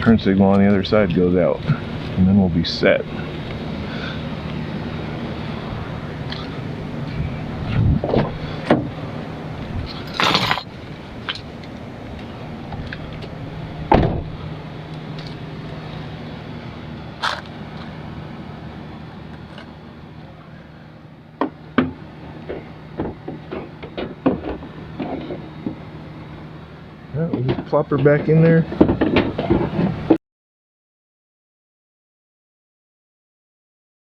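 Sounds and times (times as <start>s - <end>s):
steady low hum: 0.0s - 30.2s.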